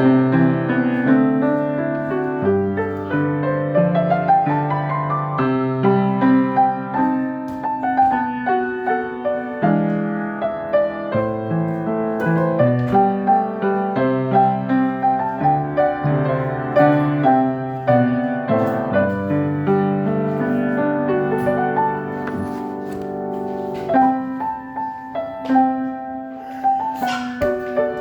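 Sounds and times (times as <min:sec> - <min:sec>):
solo piano playing: 0:00.0 - 0:28.0.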